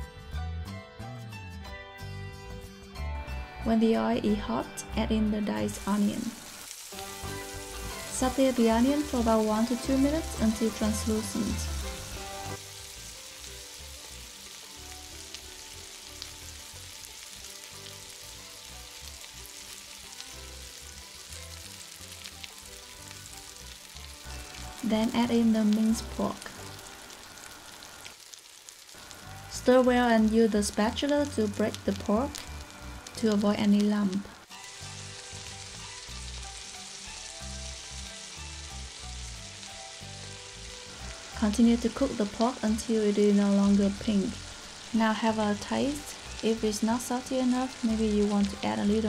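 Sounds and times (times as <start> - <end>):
onion sizzling in hot oil: 5.4 - 49.0.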